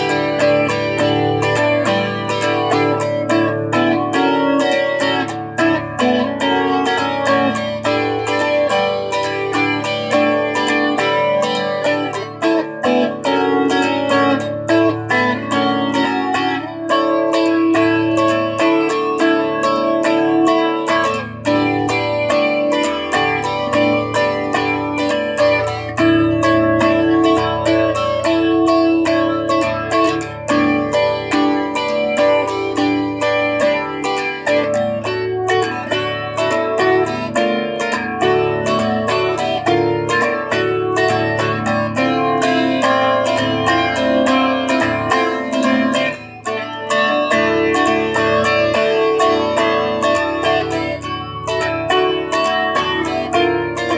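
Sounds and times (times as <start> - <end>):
solo guitar playing: 0.0 - 53.9.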